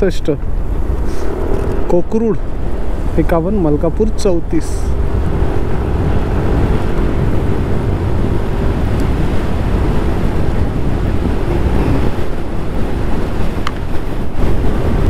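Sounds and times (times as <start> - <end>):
scooter engine hum: 0.0 - 15.0
wind buffeting microphone: 0.0 - 15.0.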